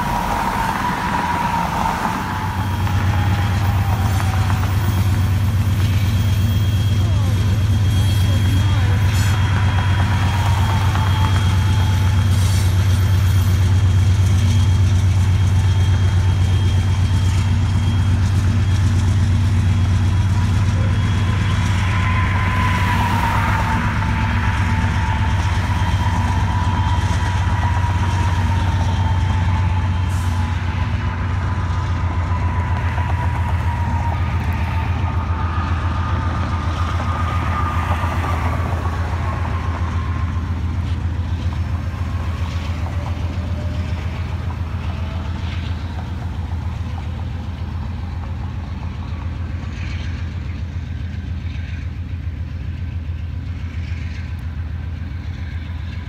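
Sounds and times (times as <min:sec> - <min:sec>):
diesel locomotive engine rumbling: 0:00.0 - 0:56.0
high wavering whine: 0:00.0 - 0:56.0.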